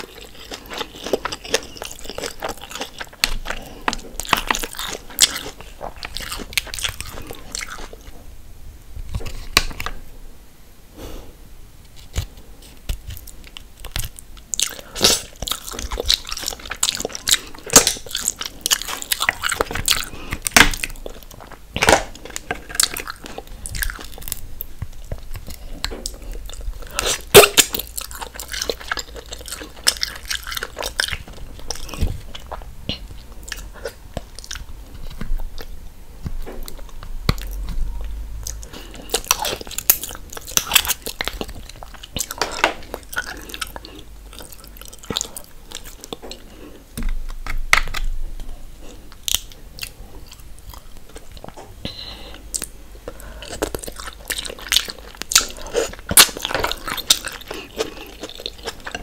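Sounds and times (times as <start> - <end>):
person chewing: 0.0 - 8.2, 11.9 - 59.0.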